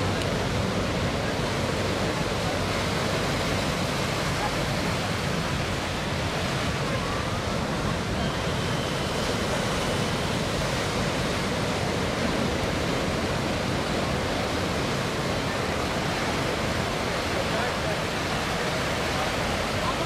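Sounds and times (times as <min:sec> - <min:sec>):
distant helicopter drone: 0:00.0 - 0:20.0
surf-like noise: 0:00.0 - 0:20.0.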